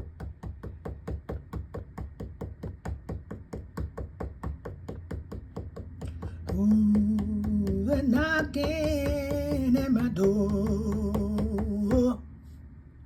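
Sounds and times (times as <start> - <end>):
rapid percussive taps: 0.0 - 12.2.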